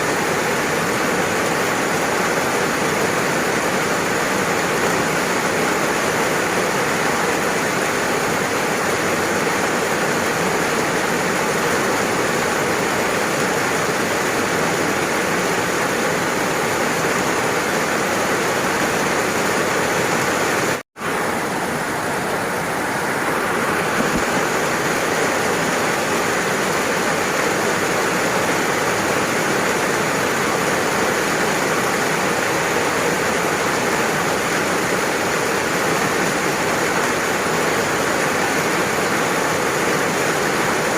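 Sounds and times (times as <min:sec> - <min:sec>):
dense rain: 0:00.0 - 0:40.9.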